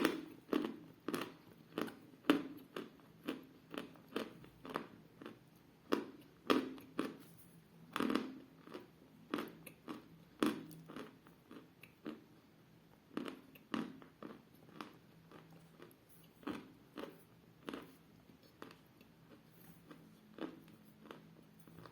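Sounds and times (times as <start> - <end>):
crunchy chewing: 0.0 - 7.4, 8.0 - 12.3, 13.1 - 21.9.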